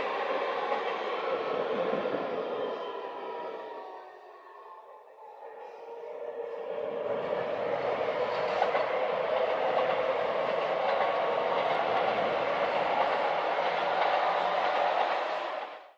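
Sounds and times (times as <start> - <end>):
train rumbling over steel bridge: 0.0 - 15.9.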